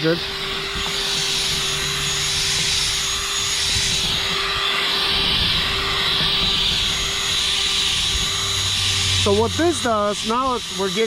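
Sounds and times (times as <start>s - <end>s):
electric drill motor whine: 0.0s - 11.0s
sanding pad hissing on plastic: 0.0s - 11.0s.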